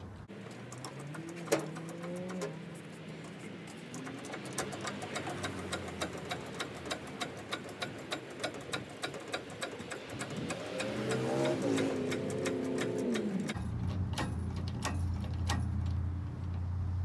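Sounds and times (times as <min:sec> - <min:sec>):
crane ratchet clicking: 0:00.5 - 0:16.7.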